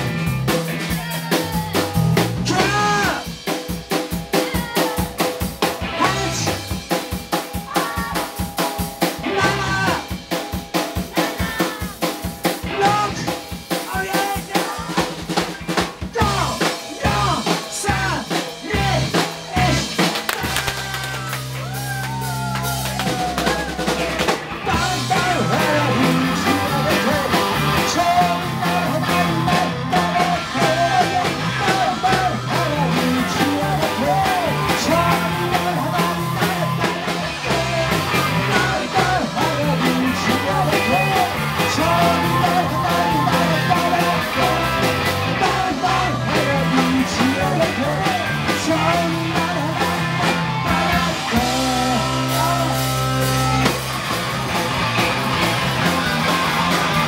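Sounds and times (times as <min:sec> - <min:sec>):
person singing: 0:00.0 - 0:03.4, 0:04.1 - 0:15.4, 0:16.1 - 0:53.8
bass guitar: 0:00.0 - 0:57.0
drum kit: 0:00.0 - 0:57.0
electric guitars: 0:00.0 - 0:57.0.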